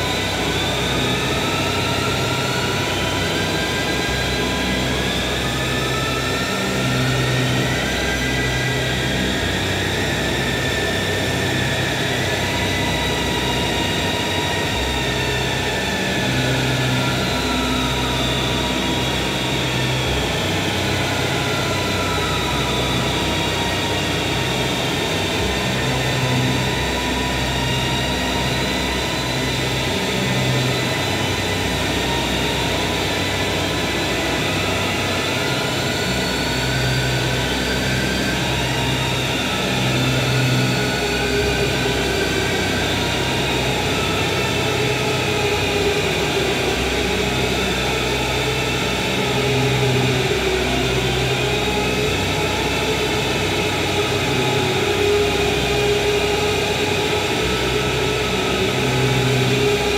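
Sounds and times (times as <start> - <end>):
drone music with bowed violin: 0.0 - 59.9.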